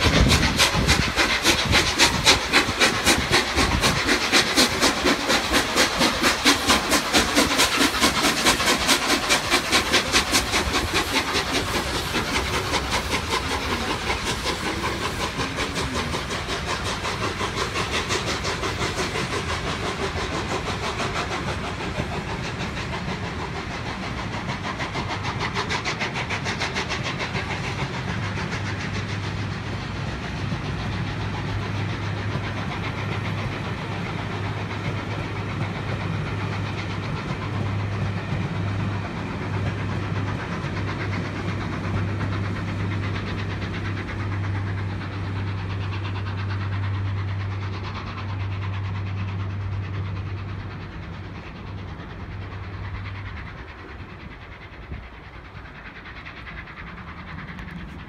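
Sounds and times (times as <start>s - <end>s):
steam locomotive exhausting: 0.0s - 58.0s.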